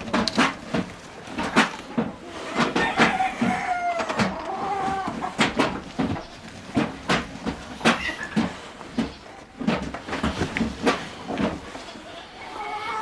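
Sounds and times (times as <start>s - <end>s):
sharp knocking and clattering: 0.0s - 11.8s.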